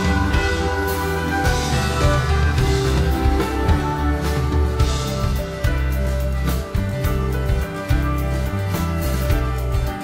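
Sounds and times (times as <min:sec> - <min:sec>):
pop backing track: 0:00.0 - 0:10.0.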